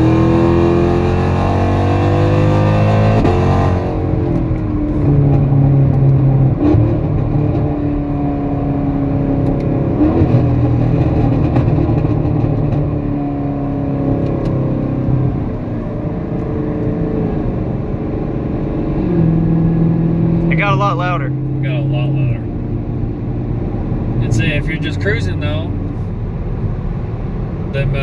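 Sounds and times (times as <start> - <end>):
loud car exhaust: 0.0 - 28.0.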